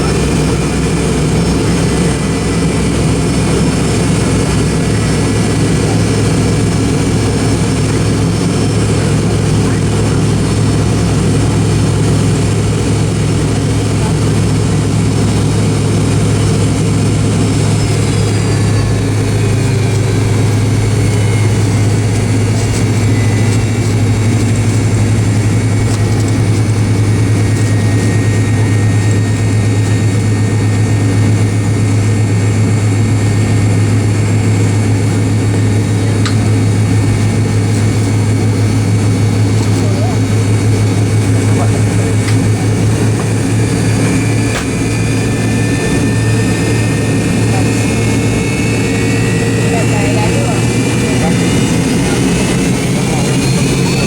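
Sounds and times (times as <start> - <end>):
faint whine gliding down: 0.0 - 54.0
jet engine cabin drone: 0.0 - 54.0.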